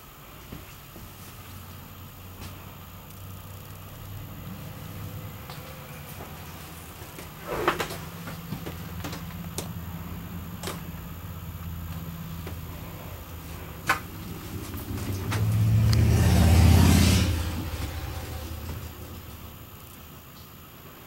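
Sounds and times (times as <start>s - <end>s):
steady low hum: 0.0s - 21.0s
vehicle engine passing: 2.6s - 20.0s.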